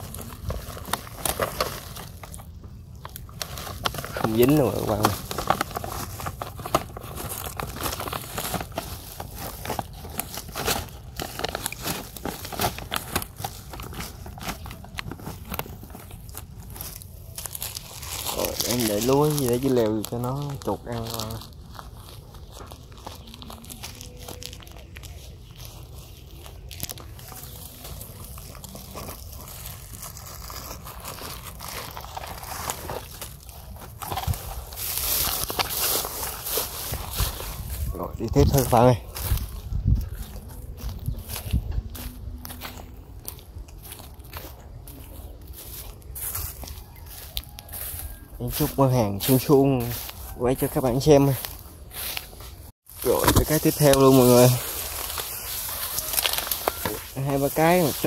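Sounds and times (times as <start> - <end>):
dry leaf litter crunching: 0.0 - 58.0.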